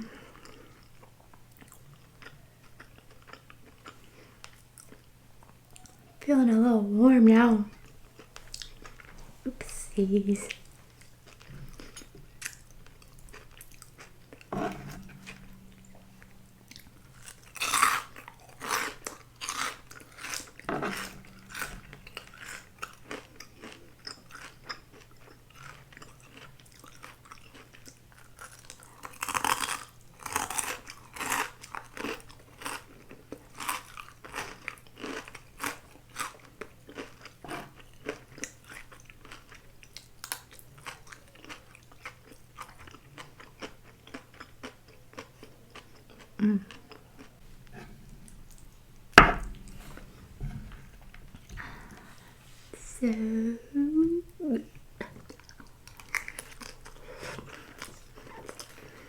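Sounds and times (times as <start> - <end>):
person chewing and crunching food: 0.0 - 6.1, 7.7 - 9.7, 10.5 - 53.2, 54.7 - 59.0.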